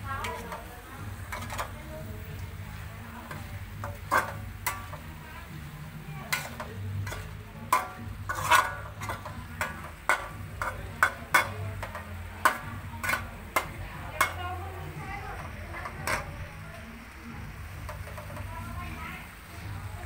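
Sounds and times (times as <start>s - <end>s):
metal utensils clinking on dishes: 0.1s - 5.5s, 6.2s - 16.9s.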